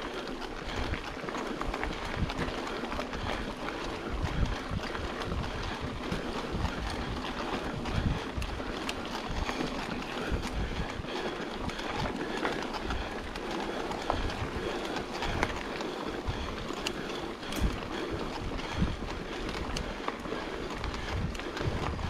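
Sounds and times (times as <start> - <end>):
bike tyres on gravel: 0.0 - 22.0
wind buffeting microphone: 0.4 - 22.0.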